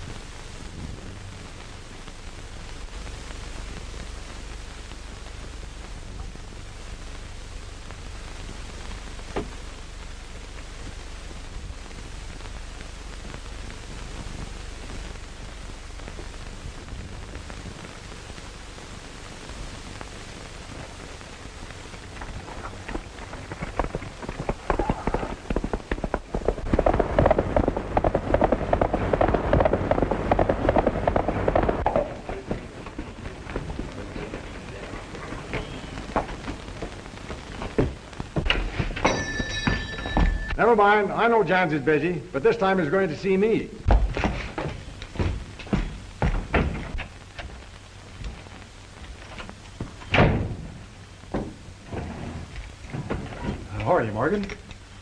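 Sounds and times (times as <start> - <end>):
horse hooves galloping: 0.0 - 43.1, 43.8 - 55.0
film soundtrack hiss: 0.0 - 55.0.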